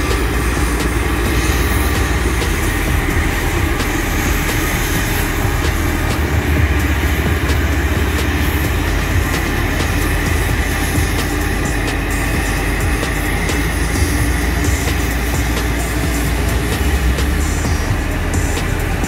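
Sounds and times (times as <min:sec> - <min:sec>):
road roller engine rumble: 0:00.0 - 0:19.0.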